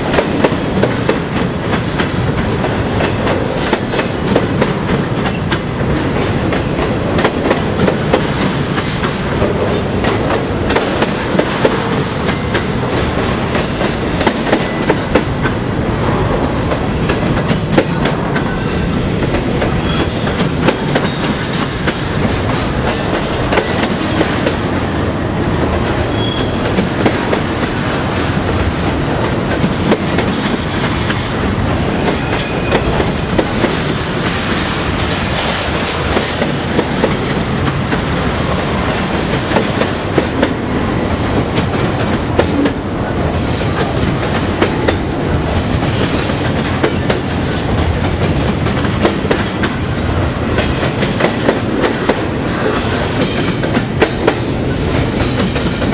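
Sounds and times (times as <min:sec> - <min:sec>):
clickety-clack over rail joints: 0:00.0 - 0:15.7, 0:16.3 - 0:55.9
freight train wheels rumbling: 0:00.0 - 0:55.9.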